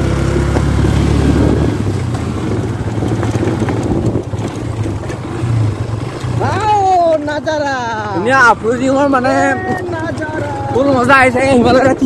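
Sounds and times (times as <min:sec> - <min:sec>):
wind buffeting microphone: 0:00.0 - 0:07.5, 0:08.1 - 0:12.0
motorcycle engine running: 0:00.0 - 0:12.0.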